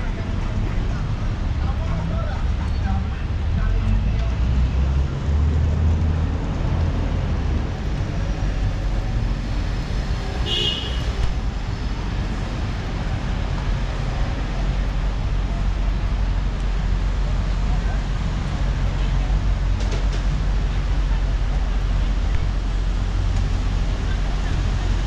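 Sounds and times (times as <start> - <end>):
passing vehicles rumbling: 0.0 - 25.0.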